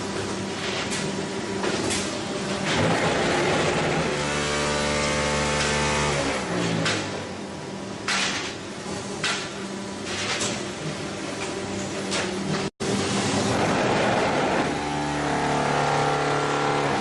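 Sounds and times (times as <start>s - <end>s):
block making machine running: 0.0s - 17.0s.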